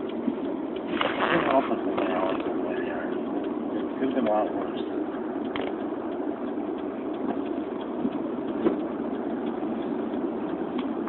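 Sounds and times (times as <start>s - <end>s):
faint ticks: 0.0s - 11.0s
road and engine noise in a car: 0.0s - 11.0s.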